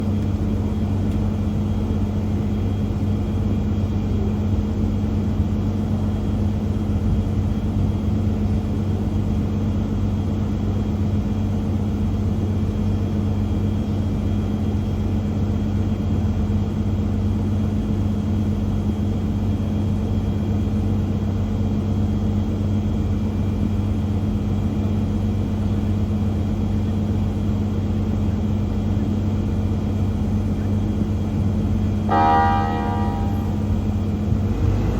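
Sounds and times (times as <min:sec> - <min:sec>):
locomotive engine idling: 0:00.0 - 0:34.9.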